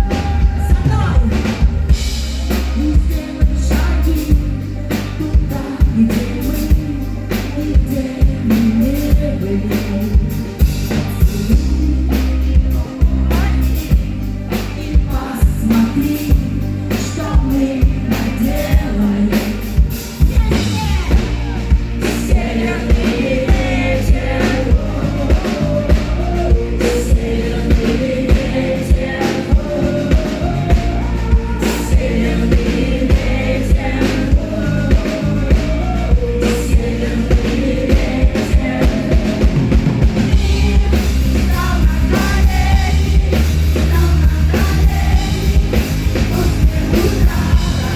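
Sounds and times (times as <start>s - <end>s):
live rock band with singer: 0.0s - 47.9s.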